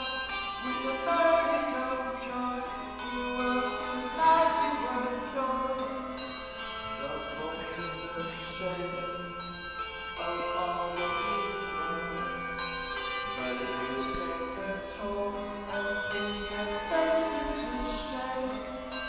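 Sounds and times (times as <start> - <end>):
handbells playing a tune: 0.0 - 19.0.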